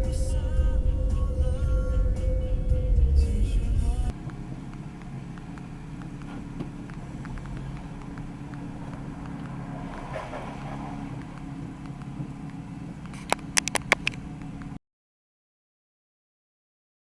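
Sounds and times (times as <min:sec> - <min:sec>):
car engine and road noise: 0:00.0 - 0:14.8.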